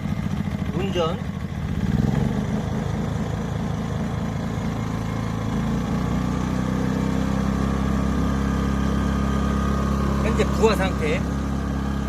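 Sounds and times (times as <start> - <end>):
portable generator engine running: 0.0 - 12.0.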